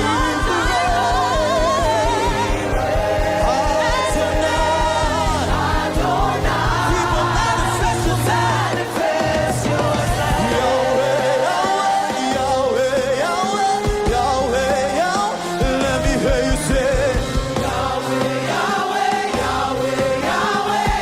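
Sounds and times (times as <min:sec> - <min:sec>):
bass: 0:00.0 - 0:18.6, 0:19.4 - 0:21.0
choir singing: 0:00.0 - 0:21.0
drums: 0:00.0 - 0:21.0
voices singing: 0:00.0 - 0:21.0.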